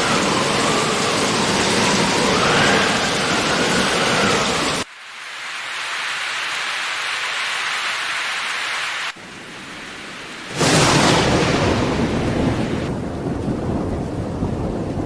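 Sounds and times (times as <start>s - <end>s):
heavy rain hissing: 0.0s - 12.9s
gusting wind: 0.0s - 15.0s.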